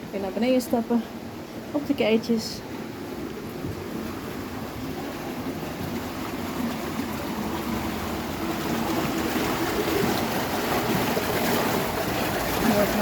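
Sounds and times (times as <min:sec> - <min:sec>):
rushing bubbling stream: 0:00.0 - 0:13.0.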